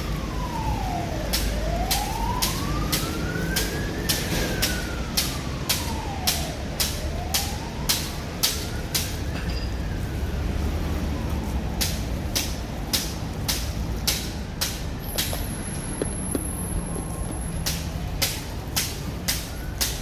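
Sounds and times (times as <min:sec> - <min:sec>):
siren wailing: 0:00.0 - 0:11.8, 0:15.3 - 0:20.0
low traffic rumble: 0:00.0 - 0:20.0.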